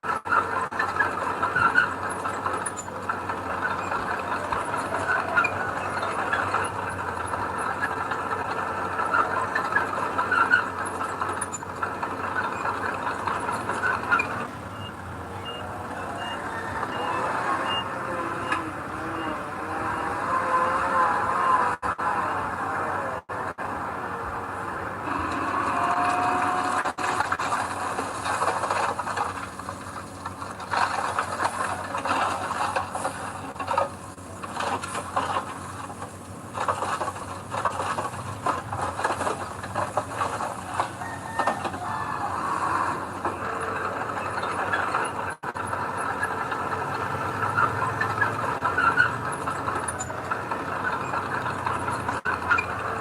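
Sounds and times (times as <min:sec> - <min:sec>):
machinery engine running: 0:00.0 - 0:53.0
metallic squealing and rattling: 0:00.1 - 0:21.8, 0:25.0 - 0:45.4, 0:47.4 - 0:53.0.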